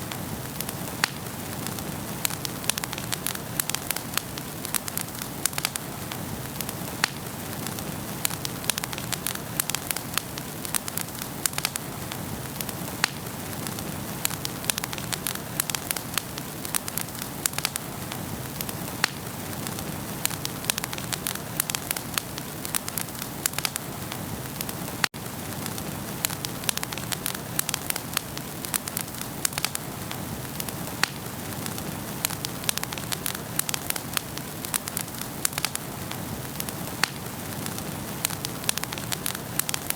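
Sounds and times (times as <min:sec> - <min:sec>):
fire hiss: 0:00.0 - 0:39.9
wood fire crackling and popping: 0:00.0 - 0:39.9.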